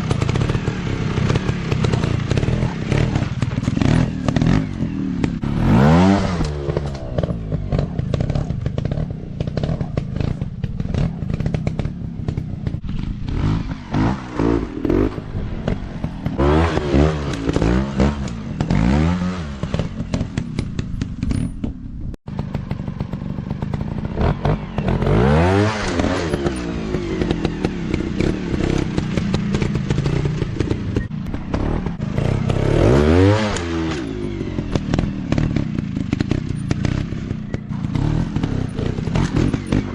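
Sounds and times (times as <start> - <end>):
dirt bike engines revving: 0.0 - 21.6, 22.4 - 39.9
exhaust clattering: 0.0 - 39.9.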